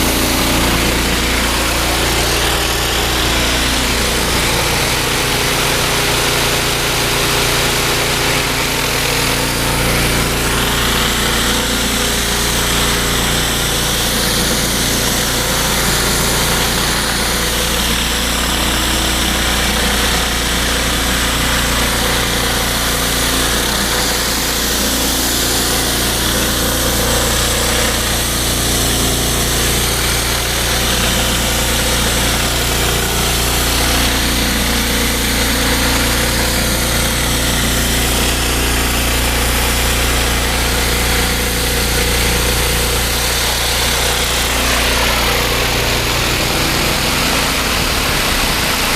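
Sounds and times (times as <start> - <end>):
petrol engine running: 0.0 - 48.9.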